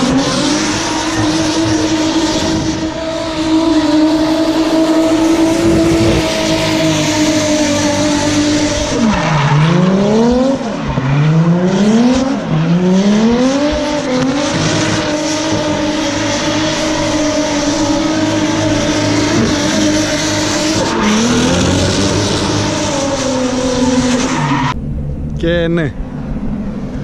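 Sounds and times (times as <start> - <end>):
car engine revving high: 0.0 - 25.2.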